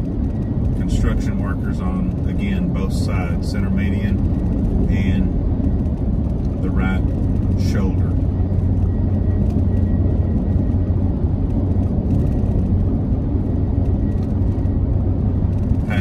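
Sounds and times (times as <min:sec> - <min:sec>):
car engine and tyre rumble: 0:00.0 - 0:16.0
faint steady whine: 0:00.0 - 0:16.0.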